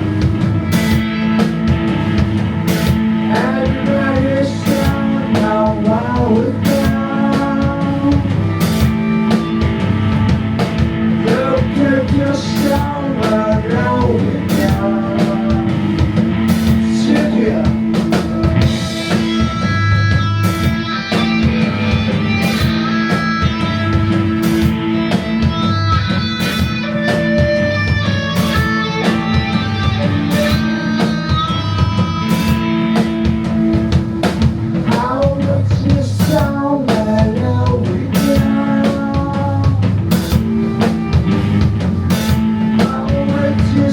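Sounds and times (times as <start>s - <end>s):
bass line: 0.0s - 43.9s
drum kit beat: 0.0s - 43.9s
electric guitar: 0.0s - 43.9s.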